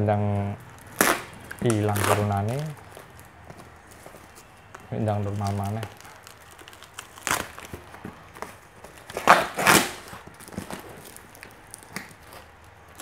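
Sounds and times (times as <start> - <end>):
plastic crinkling: 0.4 - 13.0
knife cutting bubble wrap and tape: 0.6 - 13.0.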